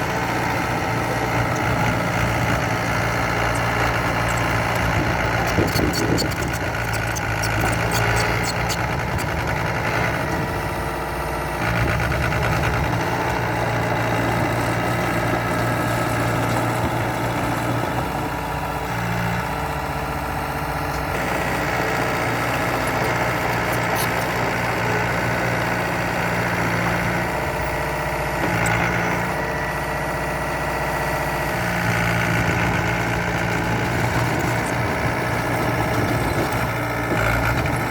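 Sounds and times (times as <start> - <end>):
heavy machinery diesel engine: 0.0 - 37.9.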